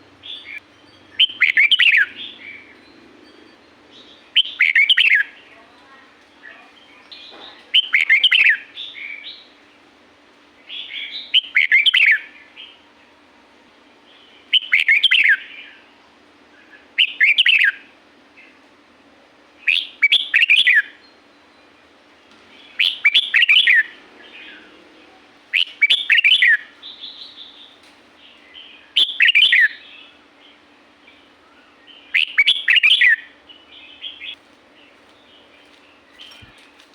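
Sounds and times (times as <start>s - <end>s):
bird singing warbled phrases: 0.0s - 2.9s, 3.9s - 9.6s, 10.6s - 12.8s, 14.1s - 15.9s, 16.6s - 18.6s, 19.6s - 21.2s, 22.5s - 36.9s
faint low hum: 0.0s - 36.9s.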